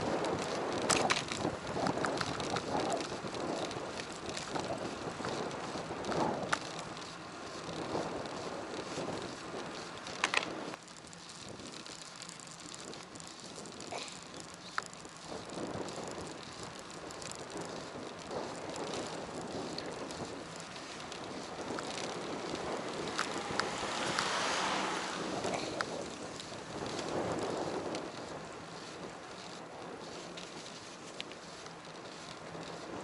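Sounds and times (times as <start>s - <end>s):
bicycle clicks and rattles: 0.0s - 33.0s
bicycle tyre road rumble: 0.0s - 33.0s
wind on microphone: 0.0s - 33.0s.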